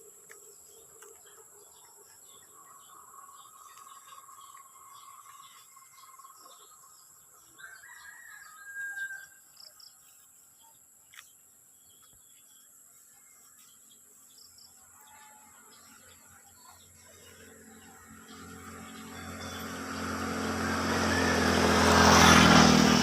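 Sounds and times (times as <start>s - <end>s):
bird calls: 0.0s - 22.7s.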